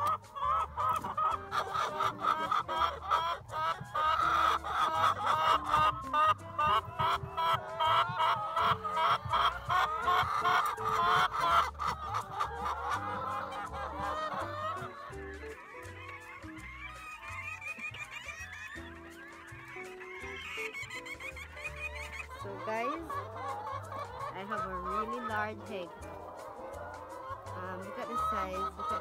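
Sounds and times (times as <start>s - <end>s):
background music: 0.0s - 29.0s
hen clucking: 0.0s - 29.0s.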